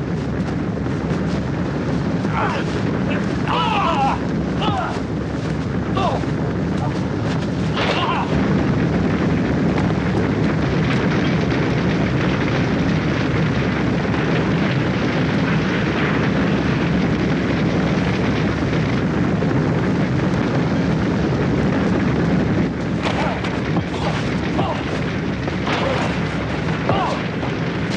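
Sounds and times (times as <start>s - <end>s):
roar of oil-well fire: 0.0s - 27.9s.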